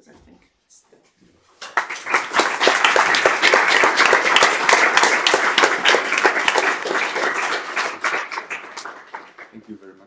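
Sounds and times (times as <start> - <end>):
audience applauding: 1.6 - 9.9.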